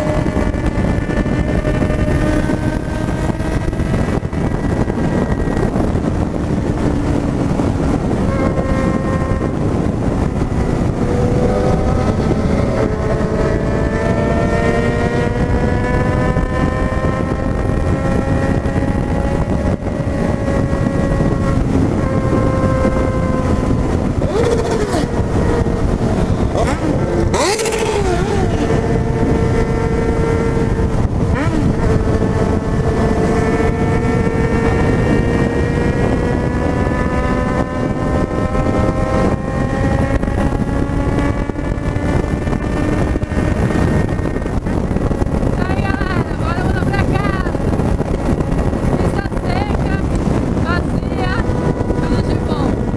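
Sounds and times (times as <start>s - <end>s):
motorcycle engine cruising: 0.0s - 52.9s
wind and road rush: 0.0s - 52.9s.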